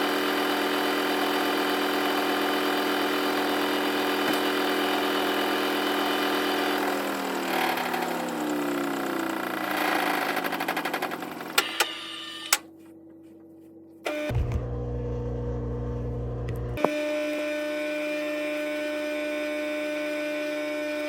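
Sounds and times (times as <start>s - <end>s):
washing machine motor whining: 0.0s - 13.2s, 14.0s - 21.0s.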